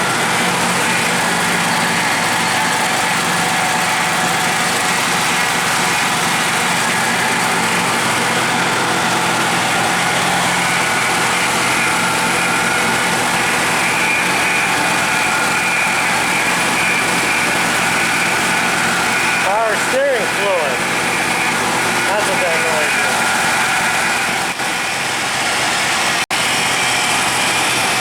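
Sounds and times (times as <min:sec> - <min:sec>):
car engine idling: 0:00.0 - 0:28.0
high supercharger whine: 0:00.0 - 0:28.0.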